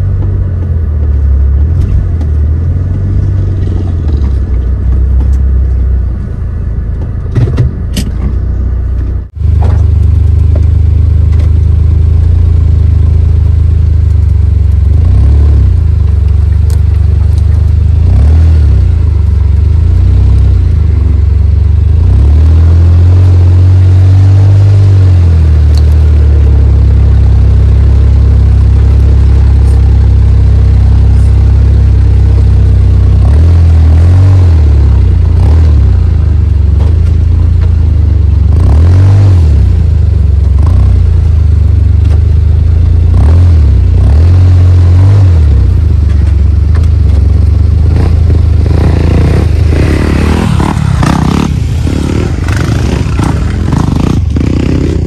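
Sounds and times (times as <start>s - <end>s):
car engine revving off-road: 0.0s - 55.0s.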